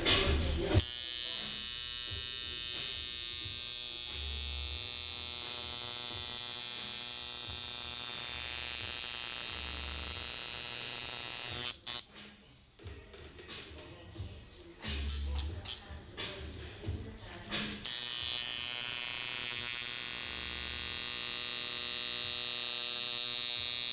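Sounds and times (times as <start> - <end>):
tattoo machine buzzing: 0.7 - 12.1, 15.1 - 15.9, 16.8 - 23.9.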